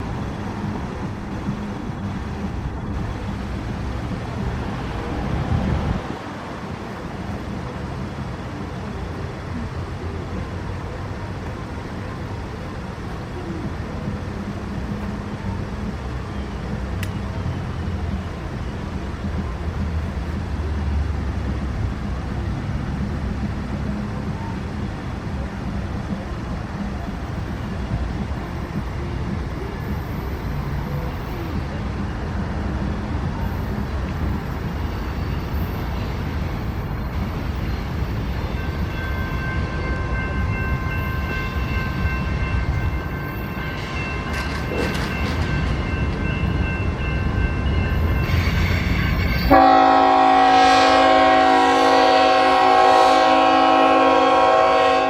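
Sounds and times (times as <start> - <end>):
high-pitched tones: 0.0 - 54.3
train rumbling past: 0.0 - 55.0.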